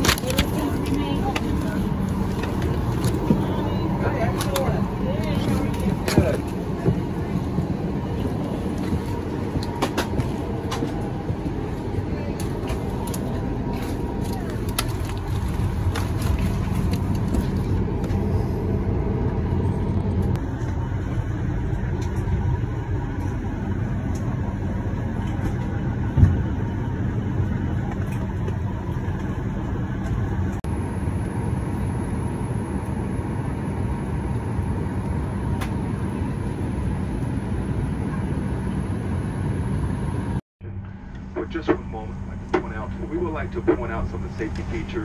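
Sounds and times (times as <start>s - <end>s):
cabin air-conditioning rush: 0.0s - 45.0s.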